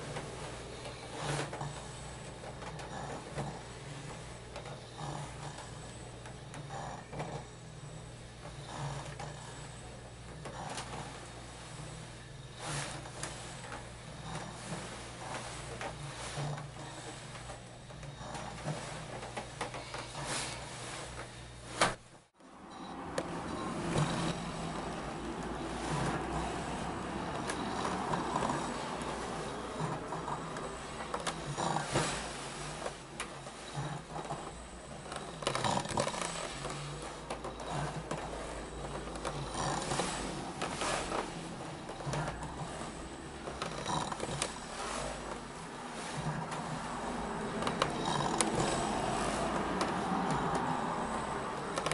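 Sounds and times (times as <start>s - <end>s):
tyre rolling on a rug: 0.0s - 51.9s.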